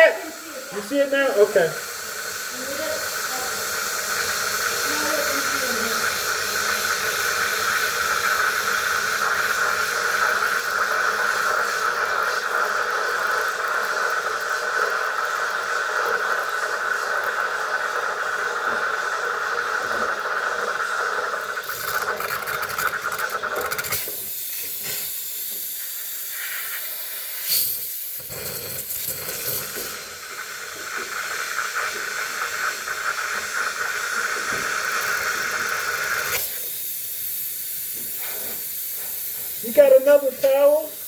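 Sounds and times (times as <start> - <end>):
steam jet hissing: 0.0 - 41.0.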